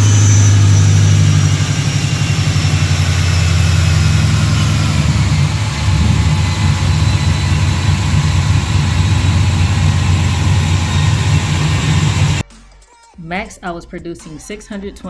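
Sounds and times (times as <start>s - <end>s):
car engine running steadily: 0.0s - 12.4s.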